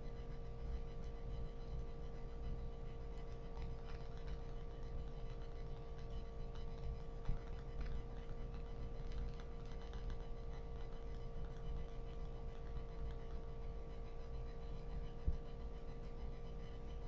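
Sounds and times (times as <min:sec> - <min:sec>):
electrical hum: 0:00.0 - 0:17.0
faint irregular clicks: 0:03.2 - 0:17.0.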